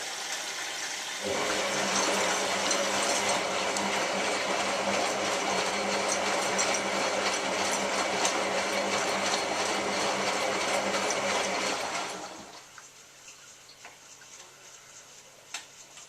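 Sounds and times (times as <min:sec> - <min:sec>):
washing machine humming: 0:00.0 - 0:13.1.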